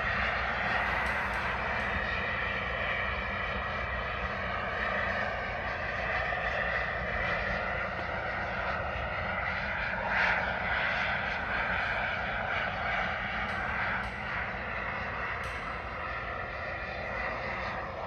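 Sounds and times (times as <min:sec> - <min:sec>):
model jet turbines rushing: 0:00.0 - 0:18.0.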